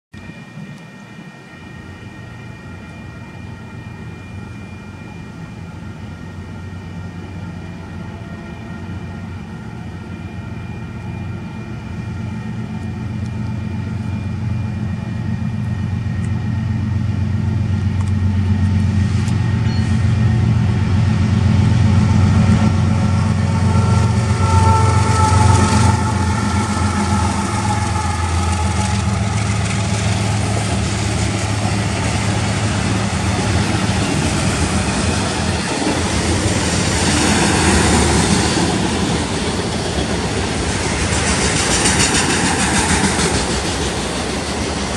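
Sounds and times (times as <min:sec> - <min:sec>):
locomotive engine rumble: 0:00.2 - 0:44.9.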